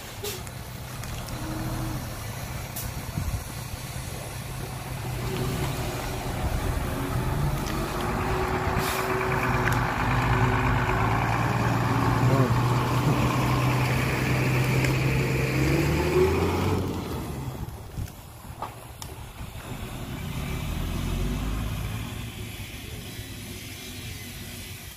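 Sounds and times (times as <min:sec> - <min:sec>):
dump truck diesel engine: 0:00.0 - 0:24.9.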